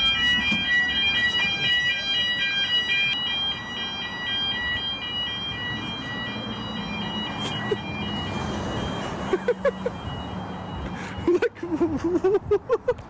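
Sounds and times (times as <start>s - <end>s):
fire alarm beeping: 0.0s - 11.9s.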